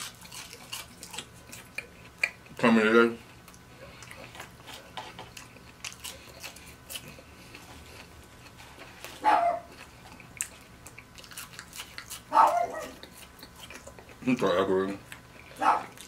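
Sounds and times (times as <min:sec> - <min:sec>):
man chewing with mouth clicks: 0:00.0 - 0:16.0.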